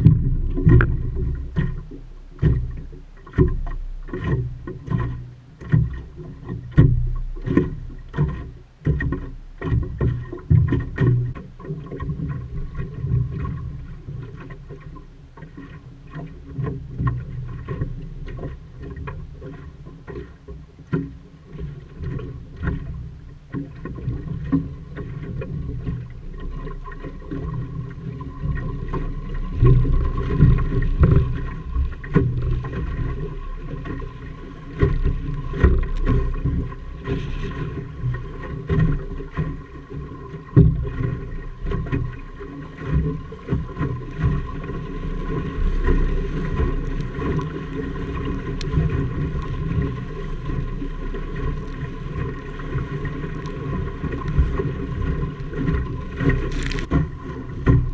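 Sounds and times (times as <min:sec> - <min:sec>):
knocks and thumps through hull: 0:00.0 - 0:57.9
water slapping against hull: 0:00.0 - 0:57.9.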